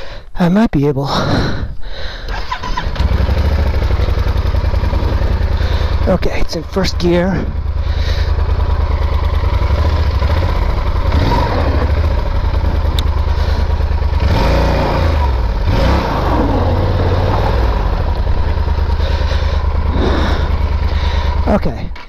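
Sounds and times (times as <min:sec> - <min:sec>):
motorcycle engine revving: 0:02.3 - 0:22.0.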